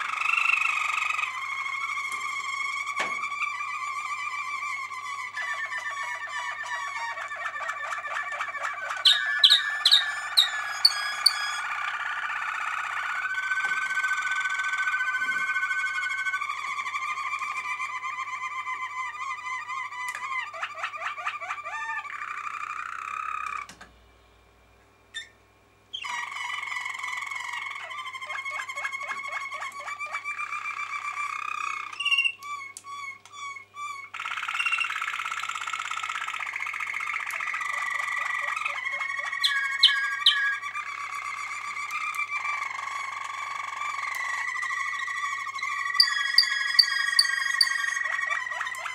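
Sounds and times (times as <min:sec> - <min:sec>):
canary singing: 0:00.0 - 0:23.7, 0:25.1 - 0:48.9.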